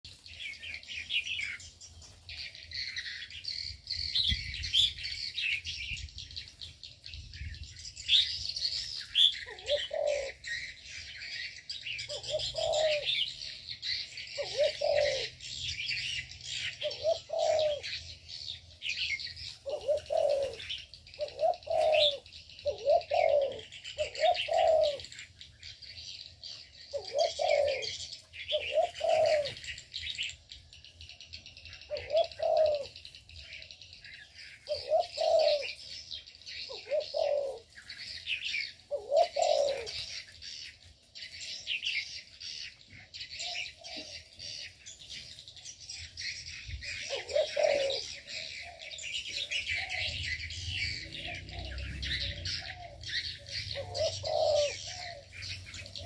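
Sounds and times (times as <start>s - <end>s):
dove cooing: 0.0s - 30.7s, 31.3s - 56.0s
small birds chirping: 0.0s - 56.0s.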